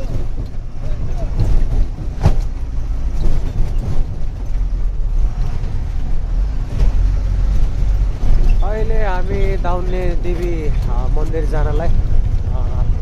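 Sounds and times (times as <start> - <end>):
knocks and rattles: 0.0 - 13.0
truck engine and road rumble: 0.0 - 13.0.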